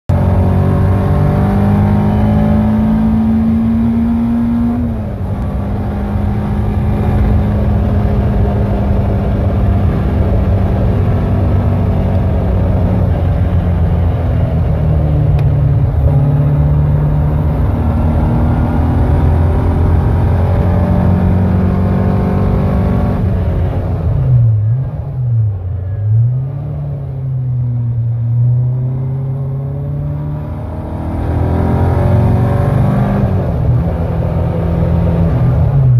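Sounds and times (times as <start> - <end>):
car engine running hard: 0.1 - 35.9.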